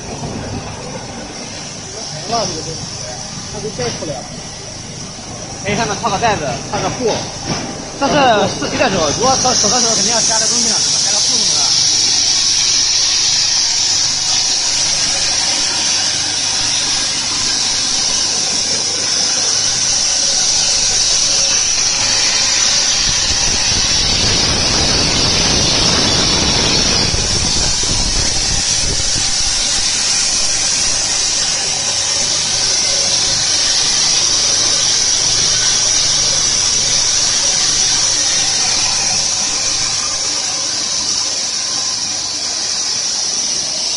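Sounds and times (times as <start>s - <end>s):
high-pitched machine hiss: 0.0s - 43.9s
low machine hum: 0.0s - 43.9s
rushing noise: 0.0s - 43.9s.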